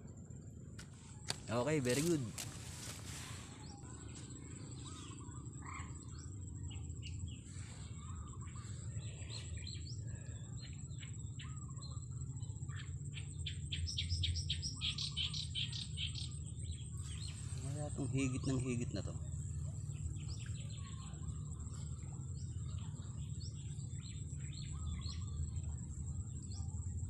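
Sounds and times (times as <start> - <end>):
small birds chirping: 0.4 - 27.0.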